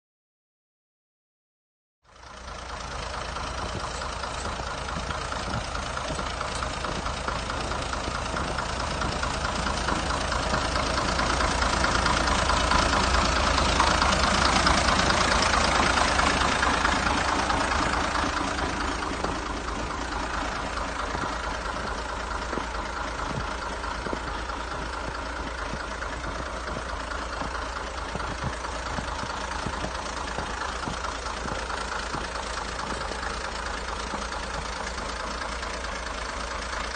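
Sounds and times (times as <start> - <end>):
tractor diesel engine running: 2.0 - 36.9.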